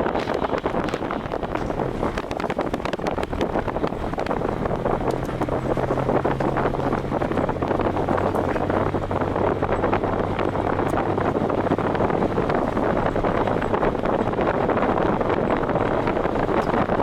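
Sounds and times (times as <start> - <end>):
low engine drone: 0.0 - 17.0
wind buffeting microphone: 0.0 - 17.0.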